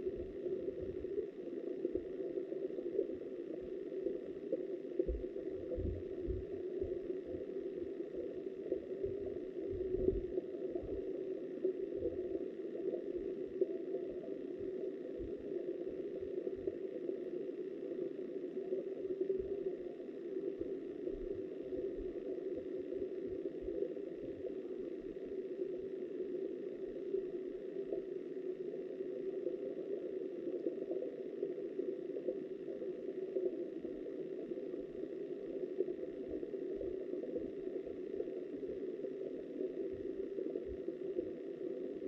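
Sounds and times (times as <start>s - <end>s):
muffled underwater river rushing: 0.0s - 42.0s.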